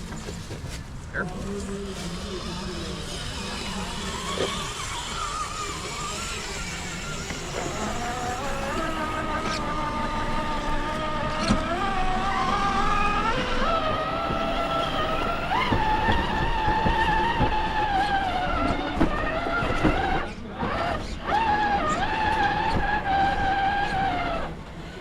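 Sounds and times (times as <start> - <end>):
electric motor whining: 1.2 - 25.0.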